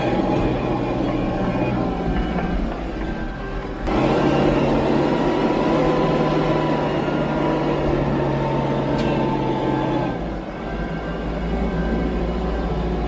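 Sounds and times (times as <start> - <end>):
heavy diesel engine drone: 0.0 - 13.0.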